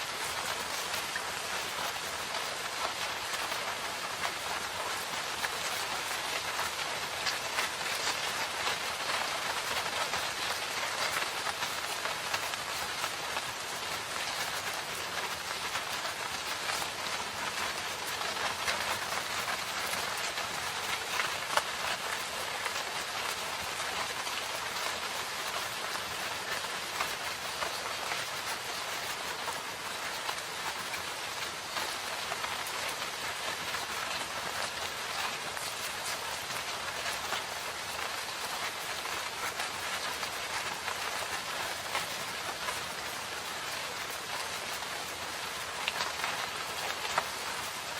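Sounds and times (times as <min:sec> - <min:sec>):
rain on foliage: 0:00.0 - 0:47.9.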